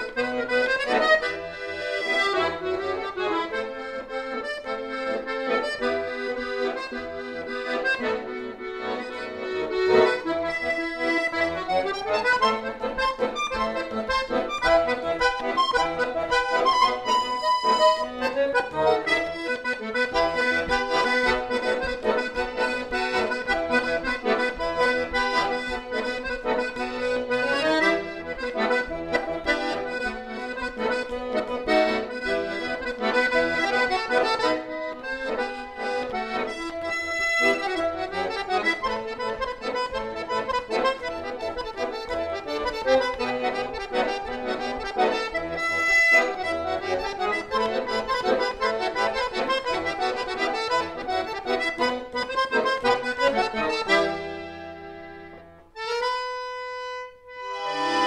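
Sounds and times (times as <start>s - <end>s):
button accordion playing: 0.0s - 58.0s.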